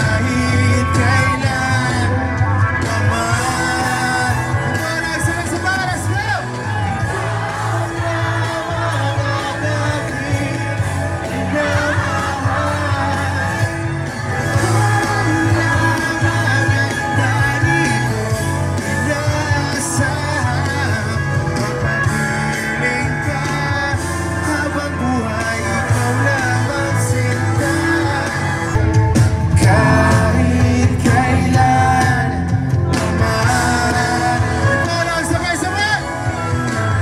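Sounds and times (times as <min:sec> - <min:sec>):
heavy bass: 0:00.0 - 0:37.0
live music with singer: 0:00.0 - 0:37.0.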